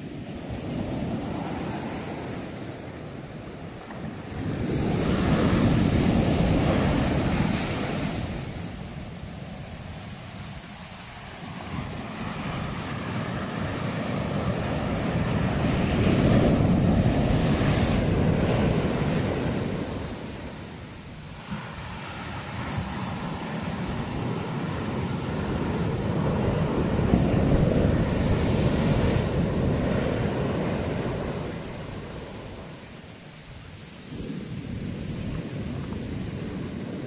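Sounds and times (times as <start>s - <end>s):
ocean waves washing in: 0.0s - 37.0s.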